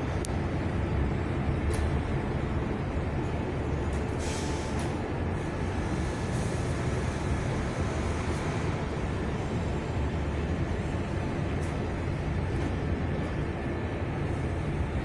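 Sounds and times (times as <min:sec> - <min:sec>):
city road traffic rumble: 0:00.0 - 0:15.0.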